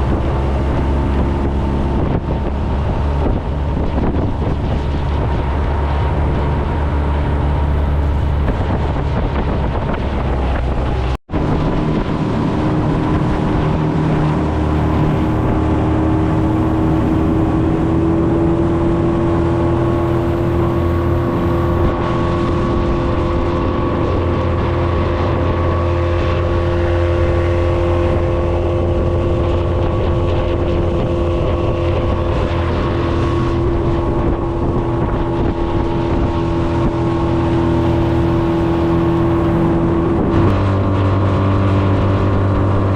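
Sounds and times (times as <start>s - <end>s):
outboard motor running: 0.0s - 42.9s
wind on microphone: 0.0s - 42.9s.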